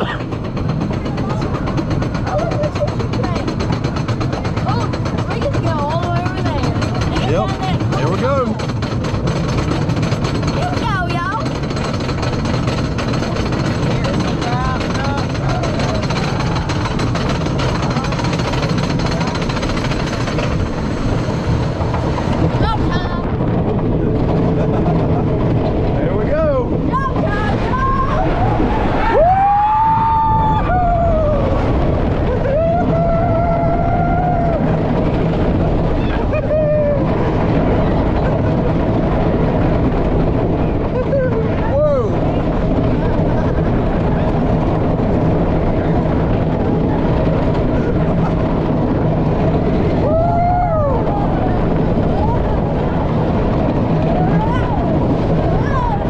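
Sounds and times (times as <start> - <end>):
roller coaster clatter and rumble: 0.0 - 56.0.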